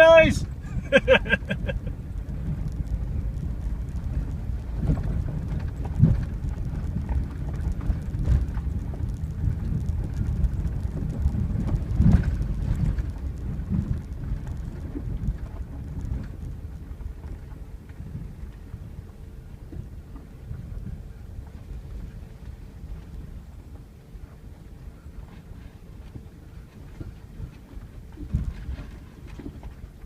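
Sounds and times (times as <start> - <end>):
truck rumbling on dirt road: 0.0 - 30.0.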